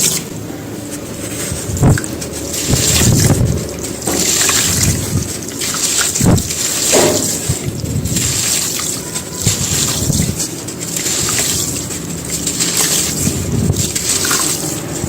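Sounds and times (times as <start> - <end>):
sand-cement crumbling: 0.0 - 15.0.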